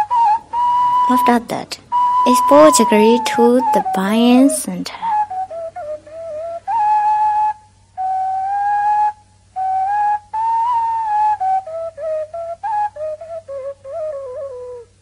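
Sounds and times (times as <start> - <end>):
slow flute melody: 0.0 - 15.0.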